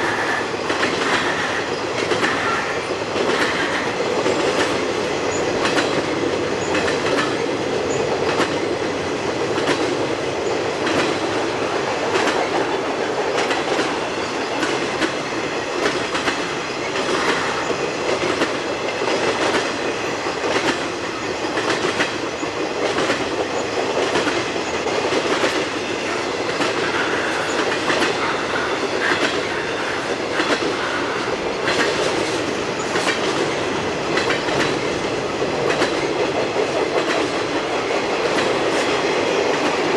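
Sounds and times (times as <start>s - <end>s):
train wheels rushing on rails: 0.0s - 39.9s
wheels clicking over rail joints: 0.6s - 39.9s.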